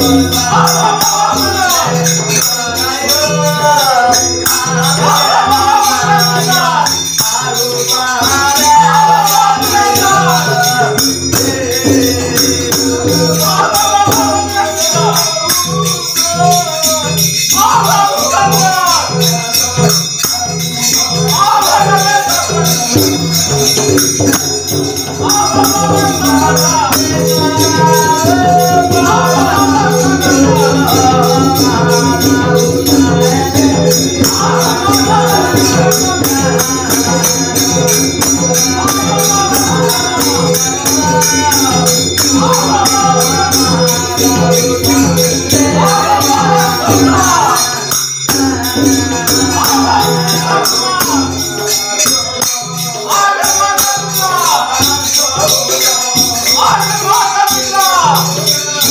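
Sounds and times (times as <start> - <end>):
devotional singing: 0.0 - 58.9
drum steady beat: 0.0 - 58.9
hand cymbals jingling: 0.0 - 58.9.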